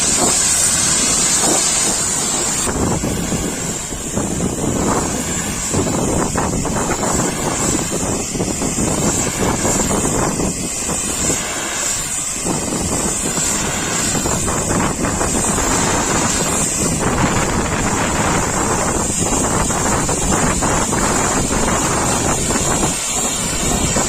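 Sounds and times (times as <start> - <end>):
pressure washer spraying water: 0.0 - 24.0.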